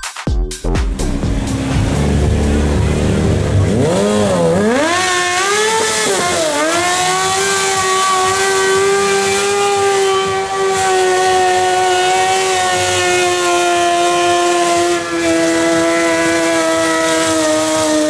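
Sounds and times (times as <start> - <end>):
motorcycle engine revving: 0.8 - 18.0.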